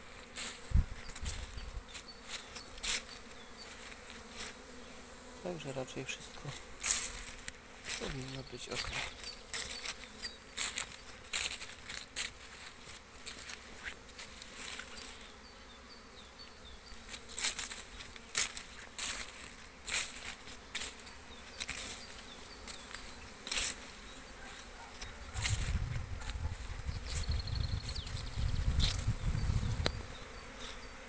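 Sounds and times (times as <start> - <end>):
footsteps on dry leaves: 0.0 - 4.6, 6.3 - 15.4, 17.0 - 29.8
bees buzzing: 0.0 - 31.0.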